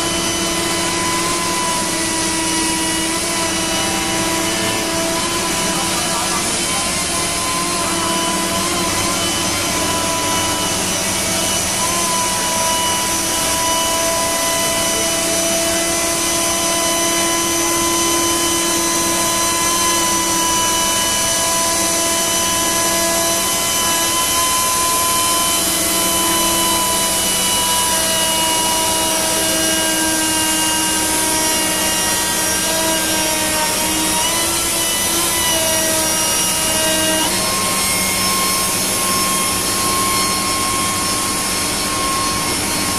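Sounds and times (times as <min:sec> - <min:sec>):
router spindle whining: 0:00.0 - 0:42.9.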